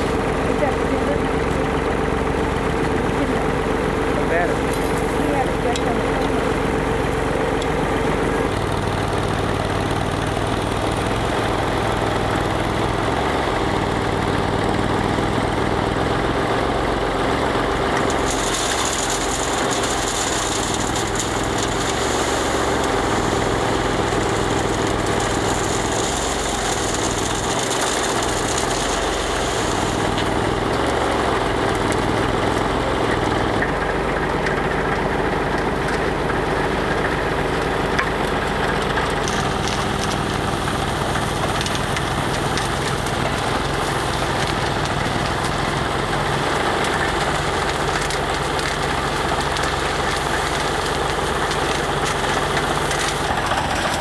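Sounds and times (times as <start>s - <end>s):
backhoe engine running: 0.0s - 54.0s
loader engine working: 0.0s - 54.0s.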